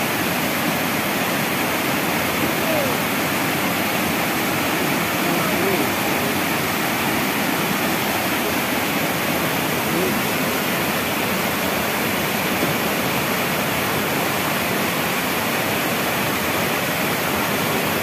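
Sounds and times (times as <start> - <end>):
waterfall rushing and splashing: 0.0 - 18.0.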